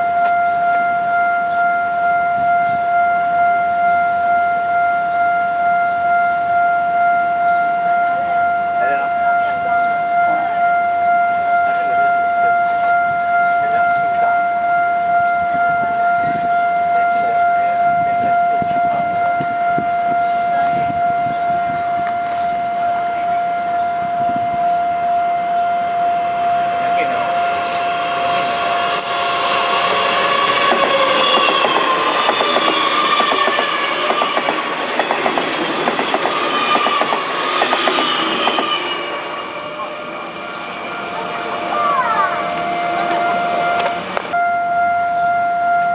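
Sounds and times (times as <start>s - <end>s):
electric train approaching: 0.0s - 45.9s
level-crossing warning bell: 0.0s - 45.9s.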